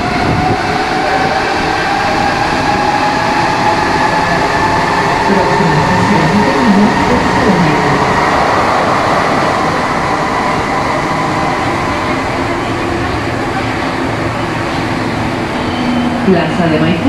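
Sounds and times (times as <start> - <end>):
metro train rolling rumble: 0.0 - 17.0.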